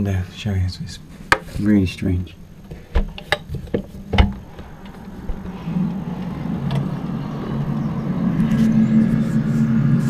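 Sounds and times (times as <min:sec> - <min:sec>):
low droning hum: 0:00.0 - 0:10.0.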